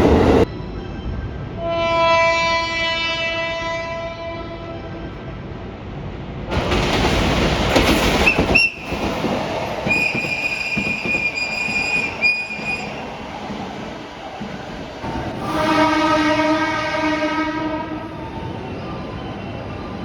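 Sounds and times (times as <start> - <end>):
train rushing past on rails: 0.0 - 20.0.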